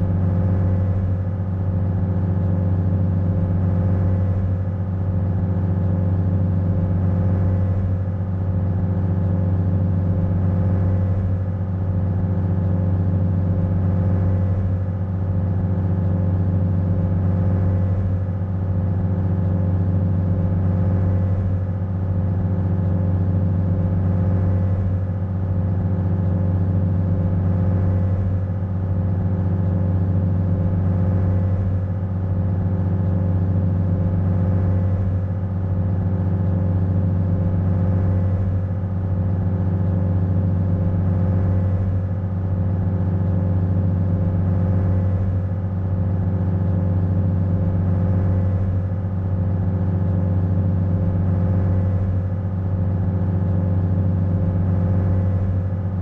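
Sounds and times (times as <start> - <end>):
ferry engine droning: 0.0 - 56.0.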